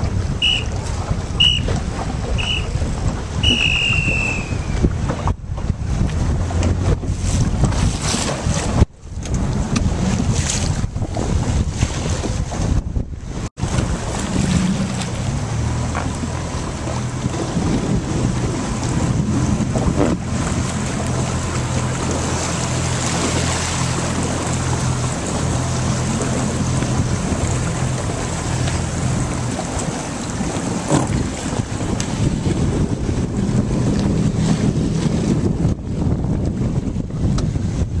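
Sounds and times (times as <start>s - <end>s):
waves splashing: 0.0s - 38.0s
wind buffeting microphone: 0.0s - 38.0s.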